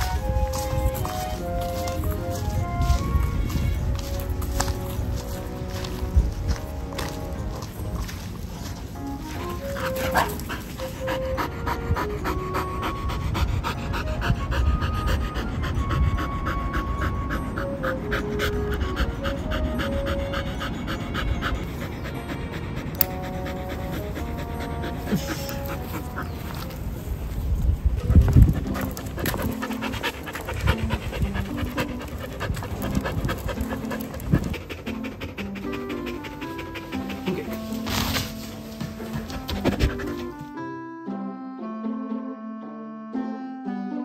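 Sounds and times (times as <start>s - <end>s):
dog panting hard: 0.0s - 27.1s, 27.8s - 40.6s
light melodic background music: 0.0s - 44.0s.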